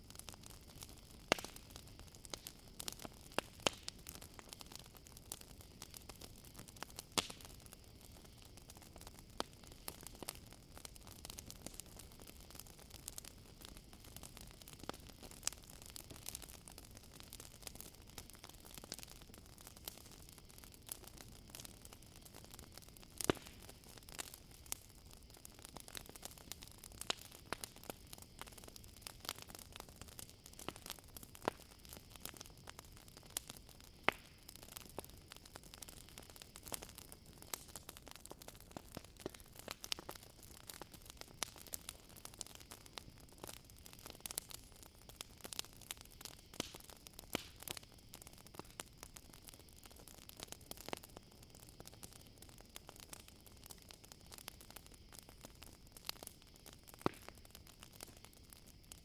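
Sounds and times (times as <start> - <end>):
campfire crackling and popping: 0.0 - 59.0
crickets trilling: 0.1 - 59.0.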